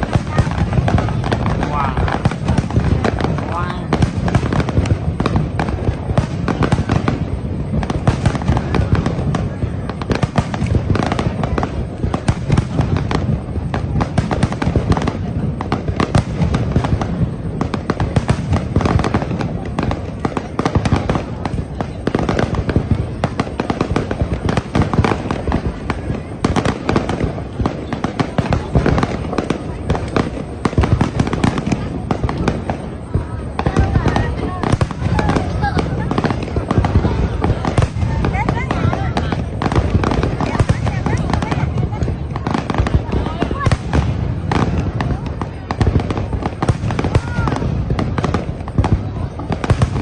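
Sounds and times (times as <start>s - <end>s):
constant rumble: 0.0s - 50.0s
fireworks bangs and crackles: 0.0s - 50.0s.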